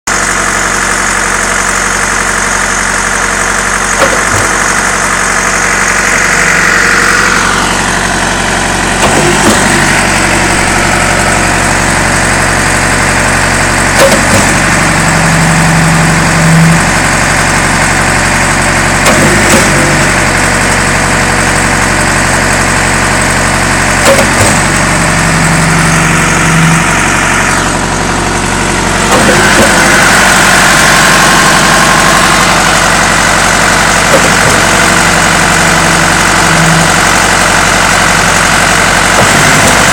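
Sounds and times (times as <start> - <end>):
diesel engine running: 0.0 - 39.9
pump clunking: 2.8 - 39.9.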